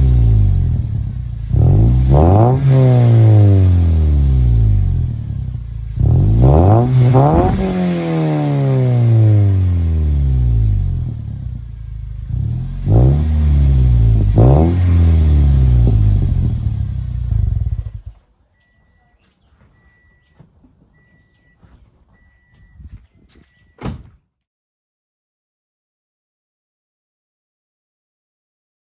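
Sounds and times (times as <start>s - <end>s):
car engine rev blips: 0.0s - 23.8s.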